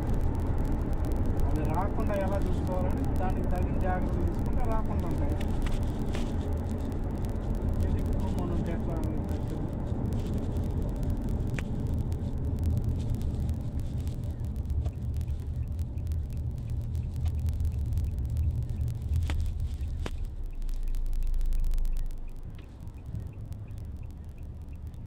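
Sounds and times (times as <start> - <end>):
faint sharp clicks: 0.0 - 25.0
vehicle rumbling in motion: 0.0 - 25.0.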